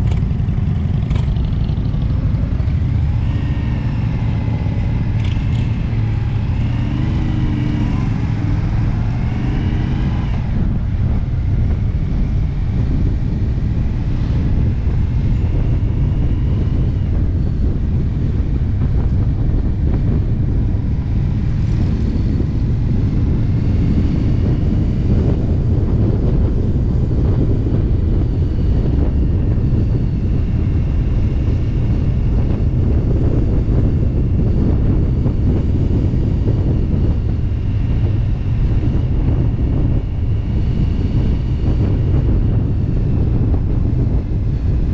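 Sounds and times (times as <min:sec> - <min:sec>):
motorcycle engine running: 0:00.0 - 0:44.9
wind and road noise: 0:00.0 - 0:44.9.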